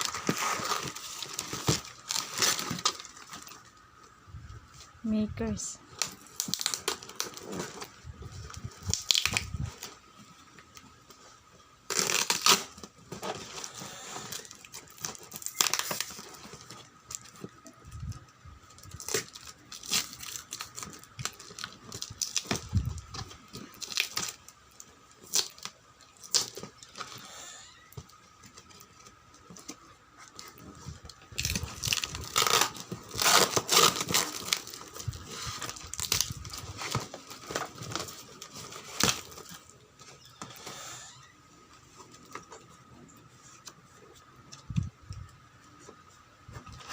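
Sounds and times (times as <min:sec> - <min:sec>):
wrapping paper tearing and crinkling: 0:00.0 - 0:03.8, 0:05.4 - 0:10.1, 0:11.8 - 0:41.1.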